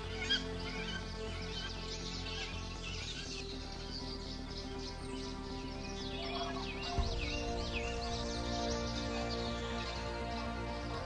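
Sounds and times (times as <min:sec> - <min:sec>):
high bird chirps: 0:00.0 - 0:10.9
background music of held chords: 0:00.0 - 0:11.0.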